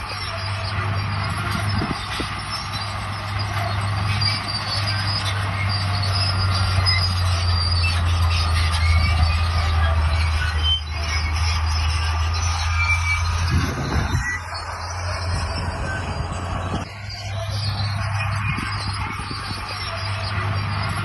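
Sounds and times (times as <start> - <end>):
bulldozer diesel engine drone: 0.0 - 21.0
steel tracks squealing: 0.0 - 21.0.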